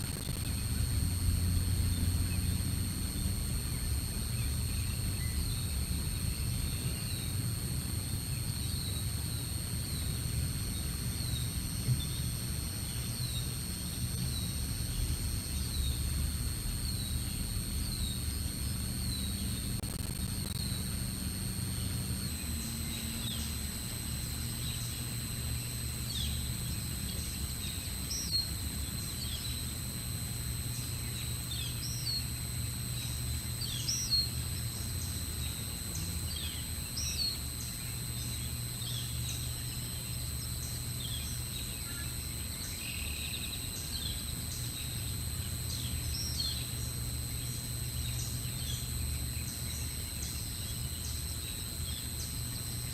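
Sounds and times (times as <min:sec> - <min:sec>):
high electronic whine: 0:00.0 - 0:52.9.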